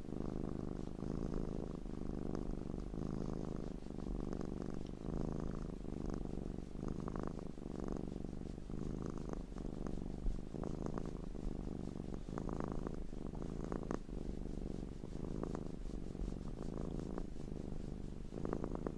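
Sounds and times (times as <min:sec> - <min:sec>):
cat purring: 0:00.0 - 0:18.9.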